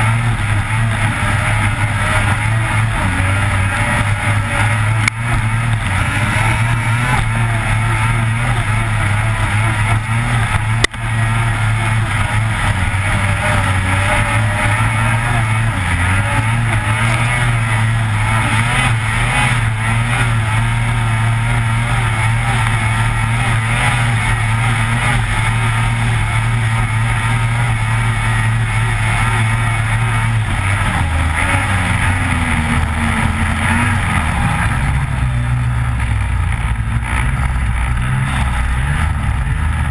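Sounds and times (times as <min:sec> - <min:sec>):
snowmobile engine running hard: 0:00.0 - 0:39.9.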